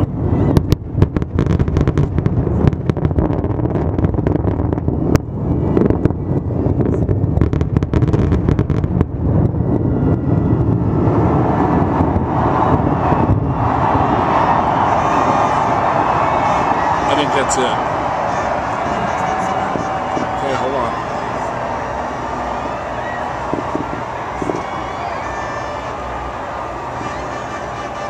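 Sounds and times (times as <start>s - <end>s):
low rumble: 0.0s - 27.0s
fireworks bangs and crackles: 0.0s - 28.0s.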